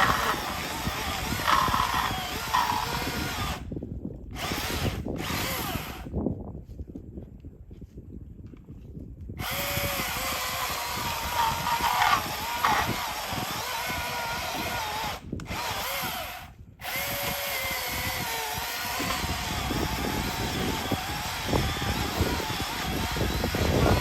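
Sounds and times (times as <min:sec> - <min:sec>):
electric chainsaw cutting wood: 0:00.0 - 0:03.7, 0:04.4 - 0:06.1, 0:09.4 - 0:24.0.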